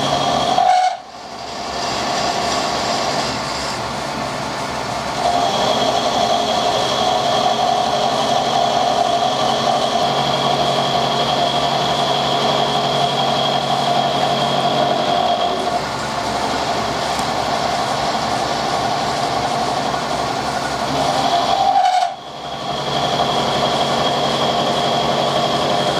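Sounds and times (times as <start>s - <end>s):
milling machine whining: 0.0s - 25.9s.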